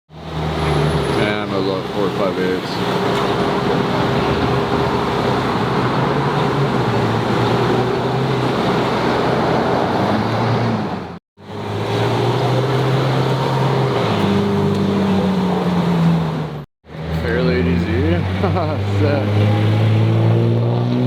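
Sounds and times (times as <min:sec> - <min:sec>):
car engine humming: 0:00.2 - 0:20.9.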